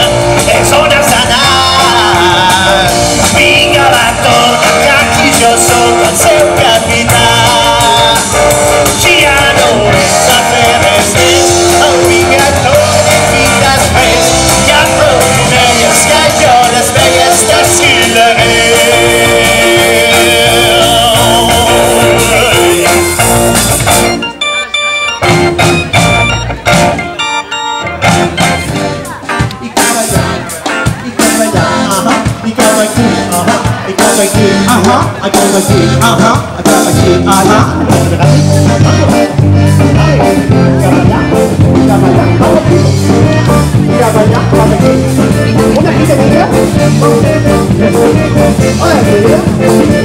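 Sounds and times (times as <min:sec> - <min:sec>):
person singing: 0:00.0 - 0:24.1, 0:28.2 - 0:50.0
drum kit: 0:00.0 - 0:50.0
organ-like electronic keyboard: 0:00.0 - 0:50.0
upbeat band music over speakers: 0:00.0 - 0:50.0.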